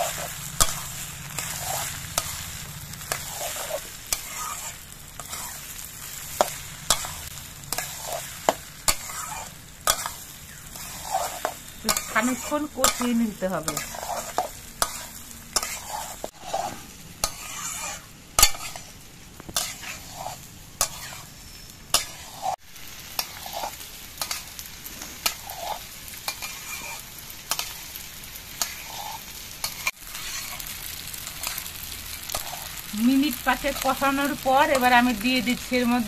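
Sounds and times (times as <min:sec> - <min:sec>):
light sizzle of oil: 0:00.0 - 0:36.0
metal spatula scraping a pan: 0:00.0 - 0:36.0.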